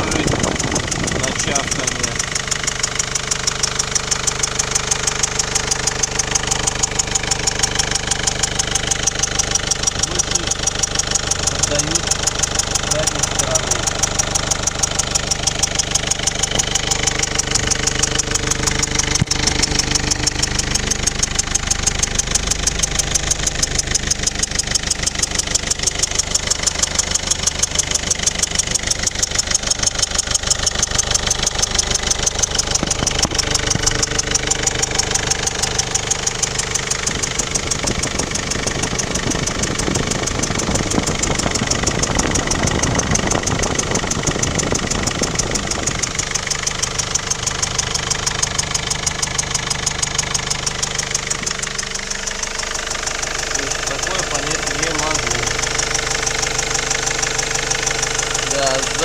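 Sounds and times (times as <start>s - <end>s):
diesel engine idling: 0.0s - 59.0s
engine chomping noise: 0.0s - 59.0s.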